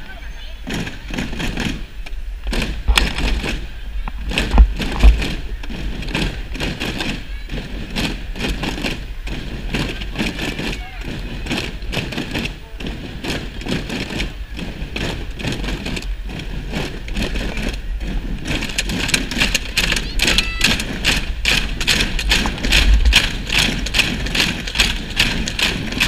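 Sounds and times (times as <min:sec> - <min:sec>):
children banging plastic objects: 0:00.0 - 0:26.0.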